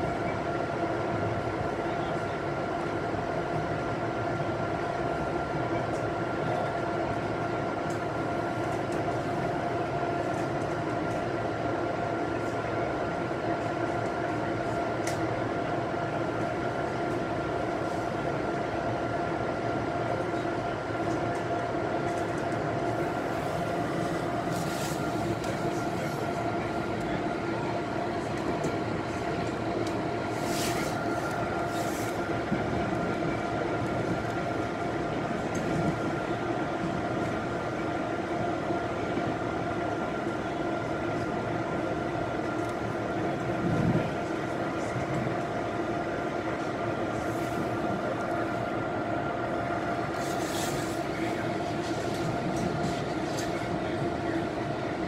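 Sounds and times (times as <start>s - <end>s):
constant hum: 0.0s - 55.0s
train running rumble: 0.0s - 55.0s.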